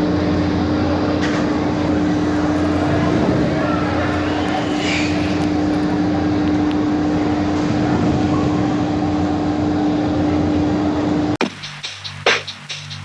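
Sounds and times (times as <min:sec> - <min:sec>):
steady mechanical drone: 0:00.0 - 0:11.4.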